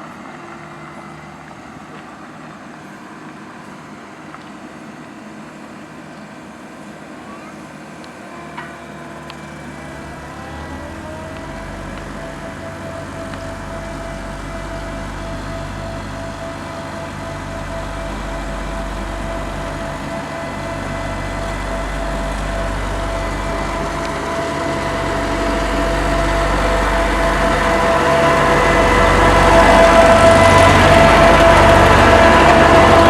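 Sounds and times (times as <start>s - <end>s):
road roller diesel engine droning: 0.0s - 33.0s.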